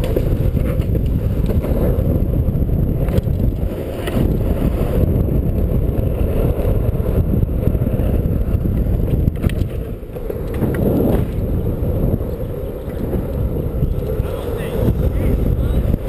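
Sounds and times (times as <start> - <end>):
wheels rumbling on asphalt: 0.0 - 16.0
wind buffeting microphone: 0.0 - 16.0.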